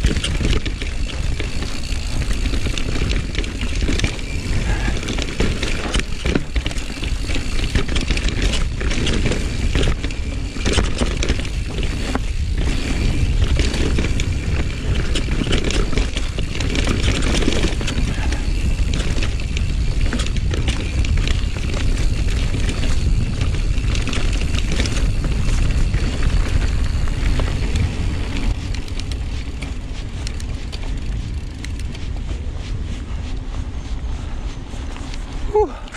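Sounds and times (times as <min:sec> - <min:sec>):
bike chain and frame rattling: 0:00.0 - 0:35.9
bike tyres rolling over dirt: 0:00.0 - 0:35.9
wind rumbling on microphone: 0:00.0 - 0:35.9.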